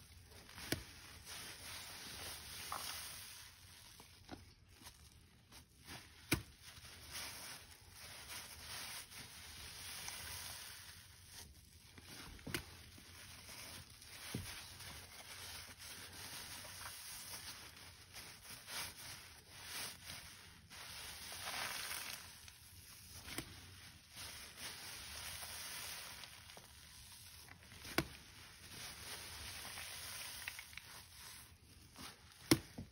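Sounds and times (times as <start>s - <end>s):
wet sponge squishing: 0.0s - 32.9s.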